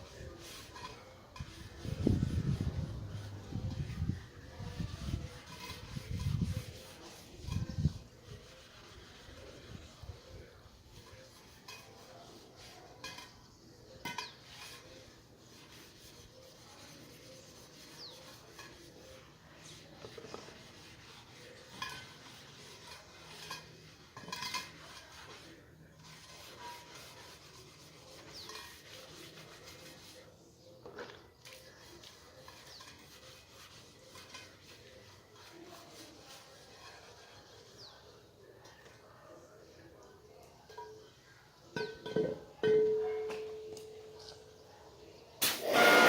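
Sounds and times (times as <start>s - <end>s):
faint rubbing and scraping: 0.0s - 42.2s.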